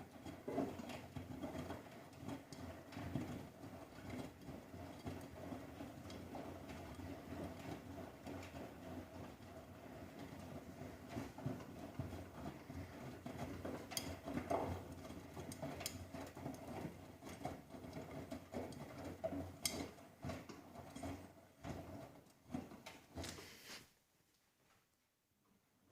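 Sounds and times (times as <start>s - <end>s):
washing machine motor hum: 0.0s - 23.9s.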